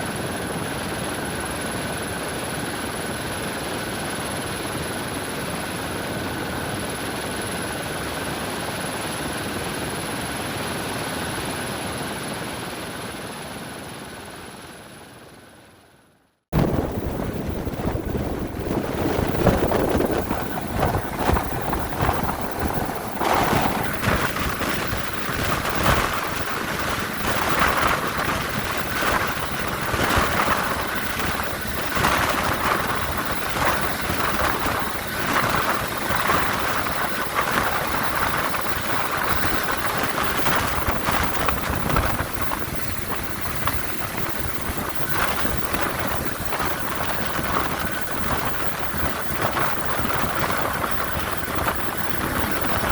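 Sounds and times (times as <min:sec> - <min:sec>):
helicopter roar: 0:00.0 - 0:15.4, 0:16.5 - 0:52.9
faint steady whine: 0:00.0 - 0:52.9.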